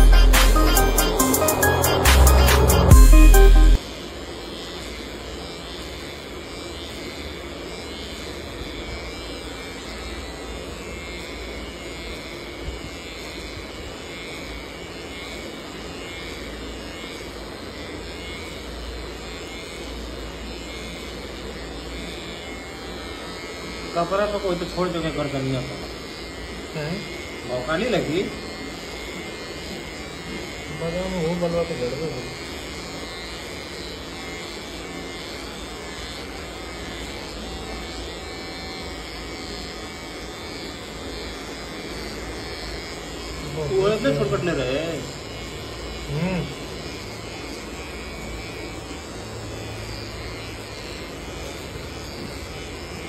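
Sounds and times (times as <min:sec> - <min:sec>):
electric pet clippers buzzing: 0:00.0 - 0:53.0.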